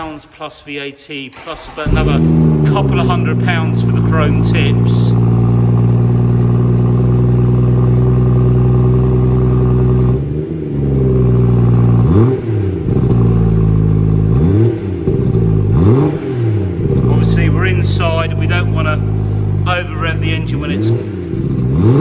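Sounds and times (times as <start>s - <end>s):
car engine idling and revving: 1.4s - 22.0s.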